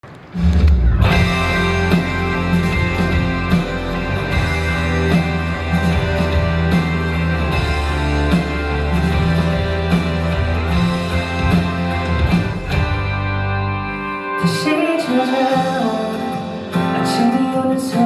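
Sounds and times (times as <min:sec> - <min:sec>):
slow ballad instrumental: 0:00.4 - 0:18.0.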